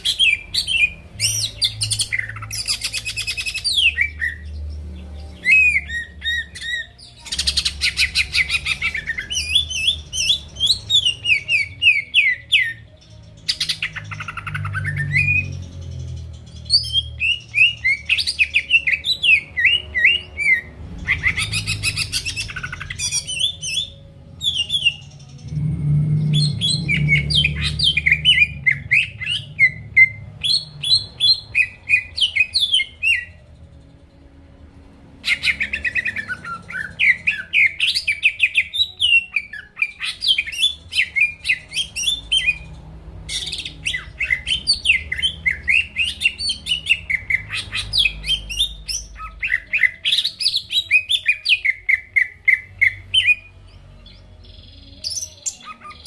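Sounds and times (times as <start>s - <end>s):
bird singing: 0.0s - 34.4s, 35.2s - 56.0s
low background hum: 0.0s - 50.4s.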